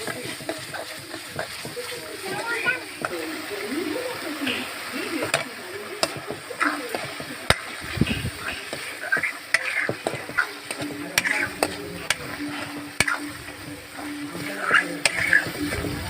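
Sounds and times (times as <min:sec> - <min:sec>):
chicken sizzling in a pan: 0:00.0 - 0:16.0
spoon scraping and knocking pan: 0:00.0 - 0:16.0.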